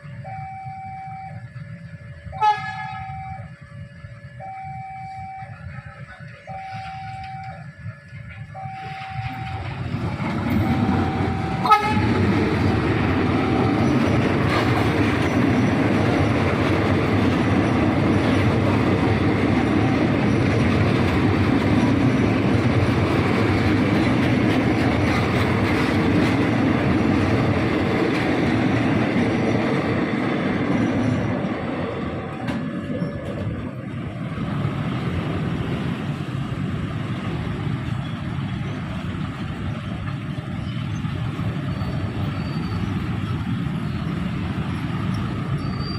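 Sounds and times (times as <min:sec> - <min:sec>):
train rumbling on rails: 0:00.0 - 0:45.9.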